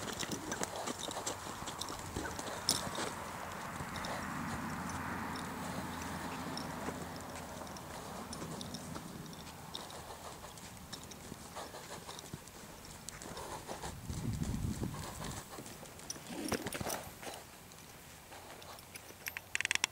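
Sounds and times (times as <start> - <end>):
horse hoofbeats on sand: 0.0 - 18.9.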